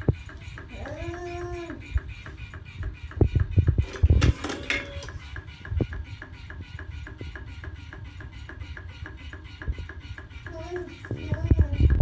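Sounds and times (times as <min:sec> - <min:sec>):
rolling machine mechanical ticking: 0:01.8 - 0:12.0.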